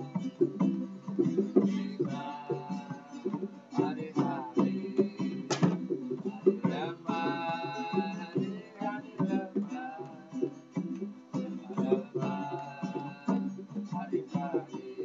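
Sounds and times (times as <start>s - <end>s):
plucked strings: 0.0s - 14.9s
hand percussion strikes: 0.0s - 15.0s.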